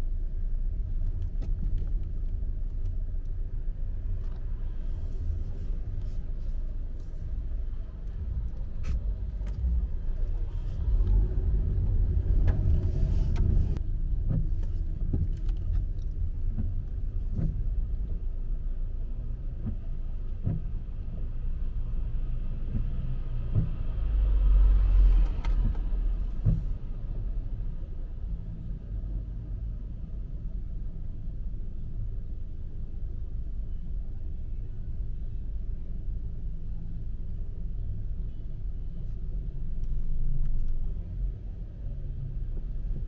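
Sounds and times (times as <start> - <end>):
street traffic rumbling: 0.0 - 43.0.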